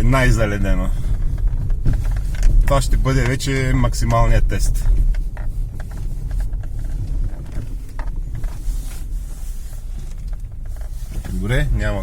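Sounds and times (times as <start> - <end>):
car rumble from inside cabin: 0.0 - 12.0
light clicks and knocks: 1.0 - 11.6.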